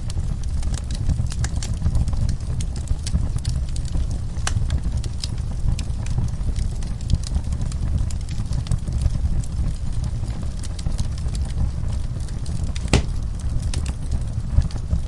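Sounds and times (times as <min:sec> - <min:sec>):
low rumble of burning logs: 0:00.0 - 0:15.0
wood fire crackling: 0:00.0 - 0:15.0
fire popping: 0:00.1 - 0:15.0.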